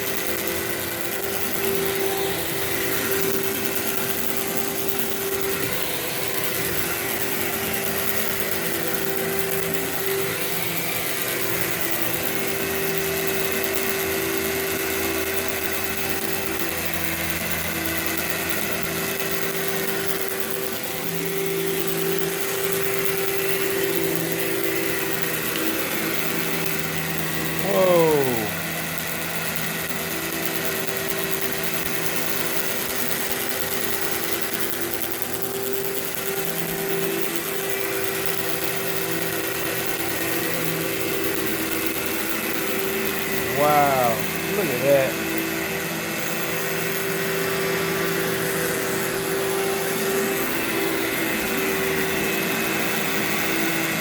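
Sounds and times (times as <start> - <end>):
vacuum cleaner motor humming: 0.0 - 54.0.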